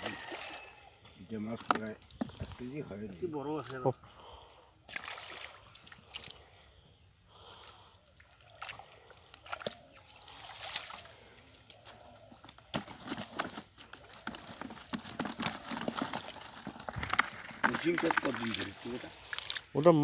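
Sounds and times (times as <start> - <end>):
fish flopping and splashing: 0.0 - 2.6, 3.6 - 6.6, 7.3 - 19.7.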